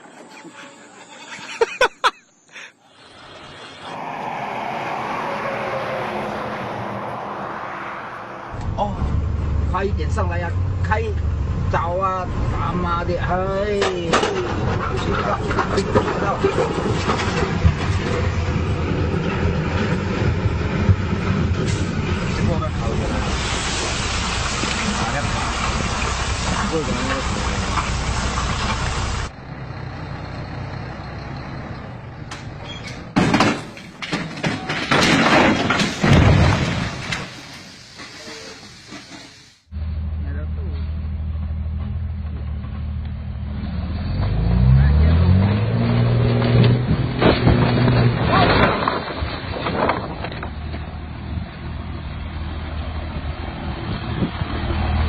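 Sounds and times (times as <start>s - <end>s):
heavy truck engine rumbling: 0.0s - 55.0s
truck engine surging: 2.6s - 55.0s.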